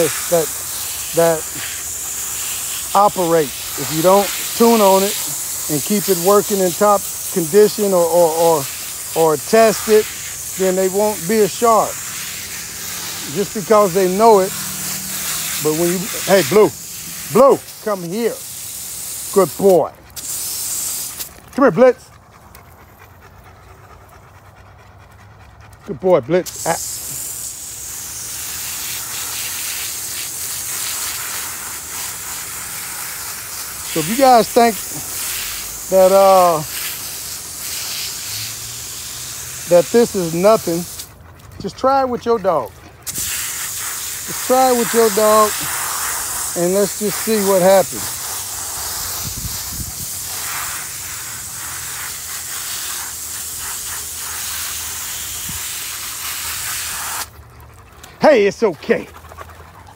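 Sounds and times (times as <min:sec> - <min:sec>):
garden hose spraying water: 0:00.0 - 0:23.9, 0:25.8 - 0:59.9.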